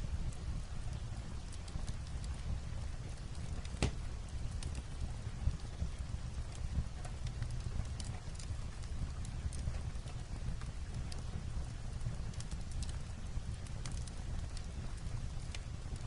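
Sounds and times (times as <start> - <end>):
fireplace crackling: 0.0 - 16.0
rain falling on a roof: 0.0 - 16.0.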